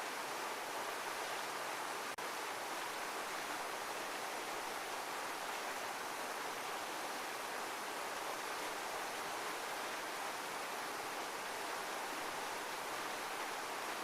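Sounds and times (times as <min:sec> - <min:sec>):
heavy rushing water: 0:00.0 - 0:14.0.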